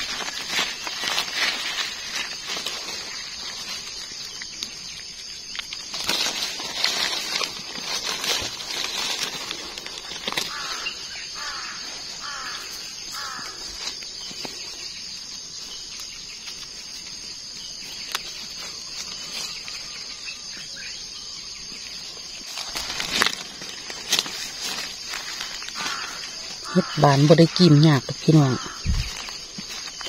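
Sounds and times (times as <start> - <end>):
rustling dry leaf litter: 0.0 - 30.0.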